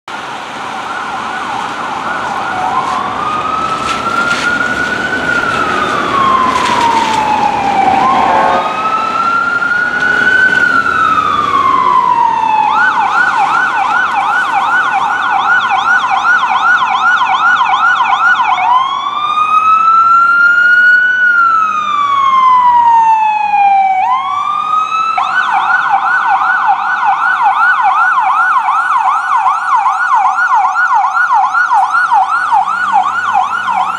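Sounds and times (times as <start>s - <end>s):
fire engine siren wailing and yelping: 0.1s - 33.9s.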